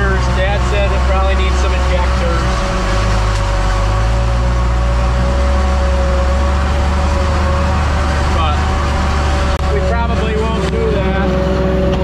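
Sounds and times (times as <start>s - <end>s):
diesel engines droning: 0.0s - 12.0s
steady whining tone: 0.0s - 12.0s.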